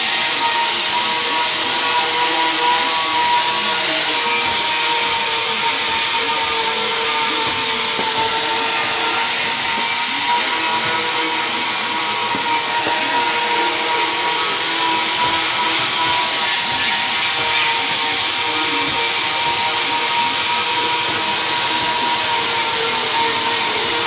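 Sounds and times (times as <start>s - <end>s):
angle grinder polishing metal: 0.0s - 24.0s.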